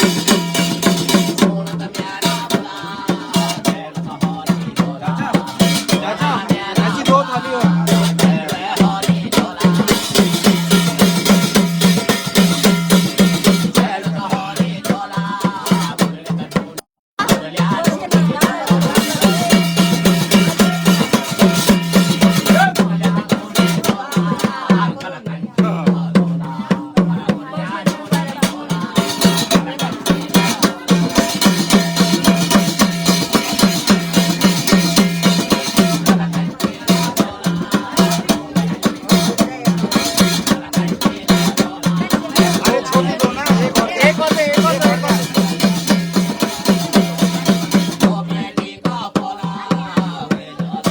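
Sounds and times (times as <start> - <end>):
drum beating fast rhythm: 0.0 - 50.9.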